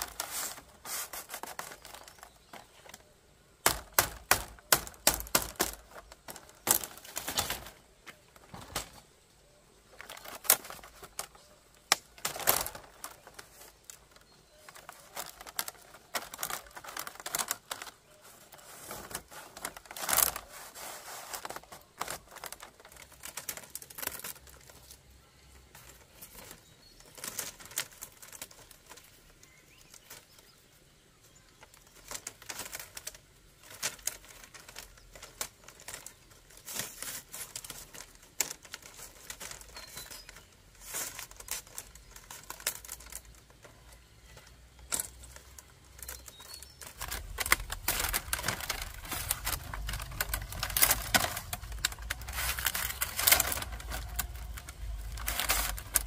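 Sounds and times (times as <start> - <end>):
bamboo strips clicking and knocking: 0.0 - 9.1, 9.9 - 30.6, 31.3 - 56.0.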